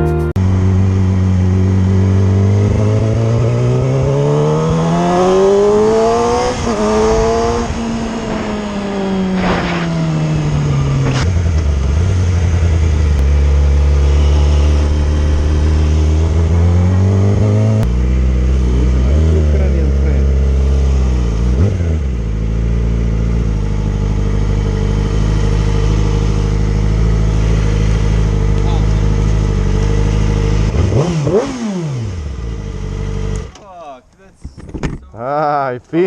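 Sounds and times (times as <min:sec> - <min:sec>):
motorcycle engine revving and idling: 0:00.4 - 0:33.7.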